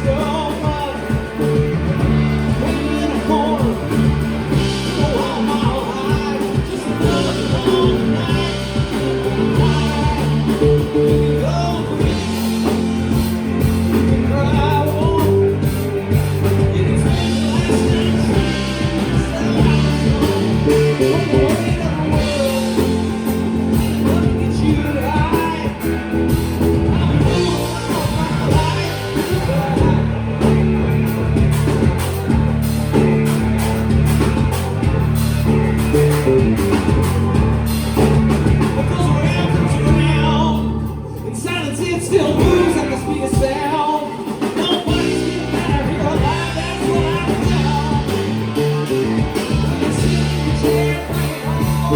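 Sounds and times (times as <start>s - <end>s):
person singing: 0.0s - 34.5s, 35.5s - 51.9s
drum kit: 0.0s - 51.9s
electric guitar: 0.0s - 51.9s.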